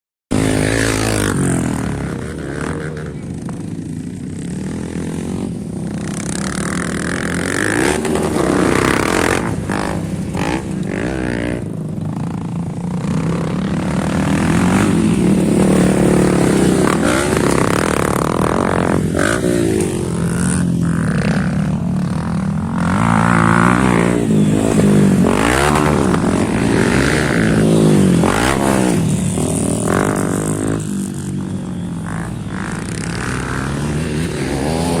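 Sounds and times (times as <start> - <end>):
dirt bike engines revving: 0.3 - 35.0.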